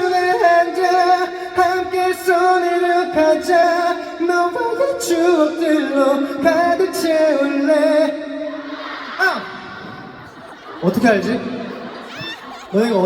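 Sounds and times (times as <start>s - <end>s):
crowd singing along: 0.0s - 13.0s.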